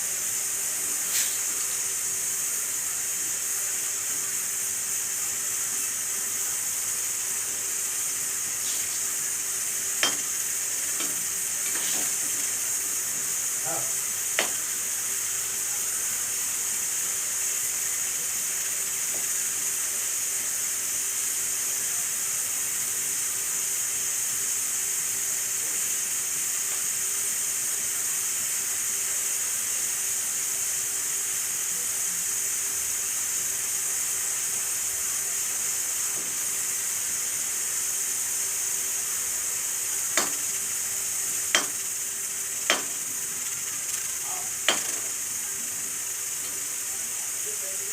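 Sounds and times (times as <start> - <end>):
food sizzling in hot oil: 0.0 - 47.9.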